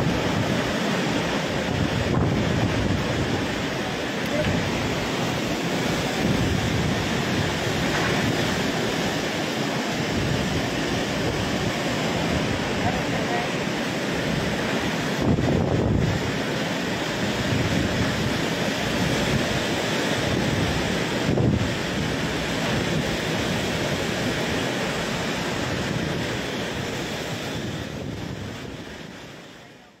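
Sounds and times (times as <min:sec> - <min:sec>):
strong wind: 0:00.0 - 0:30.0
torrential rain: 0:00.0 - 0:30.0.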